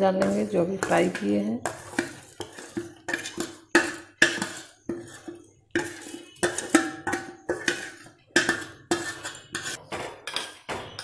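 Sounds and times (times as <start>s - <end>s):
spoon clinking on steel plate: 0.2s - 11.0s.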